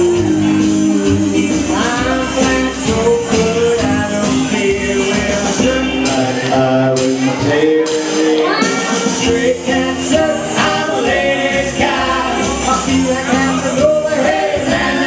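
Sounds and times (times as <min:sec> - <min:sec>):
backing music: 0:00.0 - 0:15.0
man singing into a microphone: 0:00.0 - 0:15.0.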